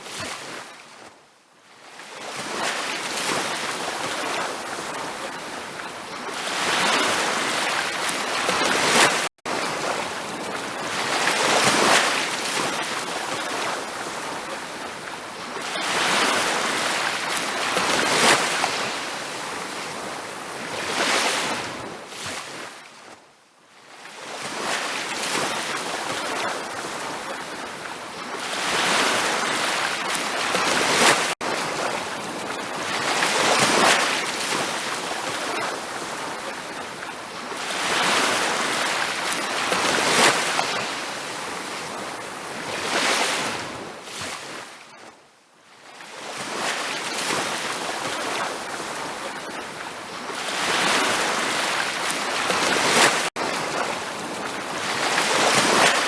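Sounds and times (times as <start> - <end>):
ocean waves breaking on beach: 0.0 - 45.2, 45.8 - 56.0.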